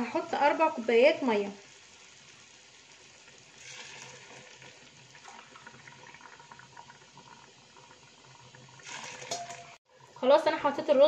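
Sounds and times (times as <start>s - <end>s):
water pouring into pot: 0.9s - 10.9s.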